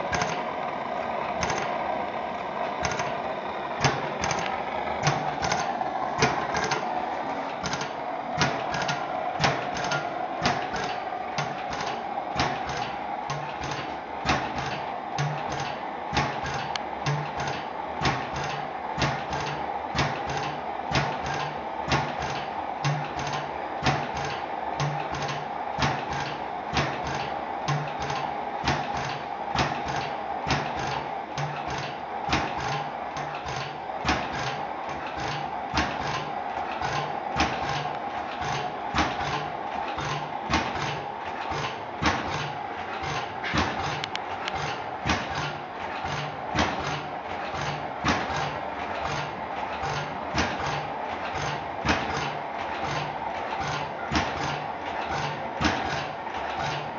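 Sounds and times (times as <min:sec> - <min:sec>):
engine compressor beating: 0:00.0 - 0:56.9
mechanical hum: 0:00.0 - 0:56.9
light mechanical clicks: 0:00.1 - 0:00.6, 0:01.3 - 0:56.9.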